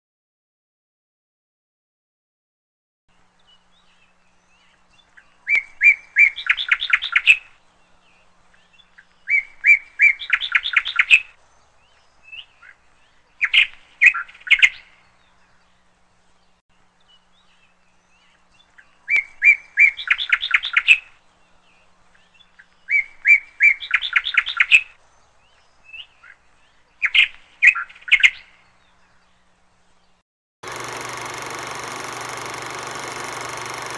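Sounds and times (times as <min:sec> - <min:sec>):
songbird singing: 0:03.1 - 0:33.9.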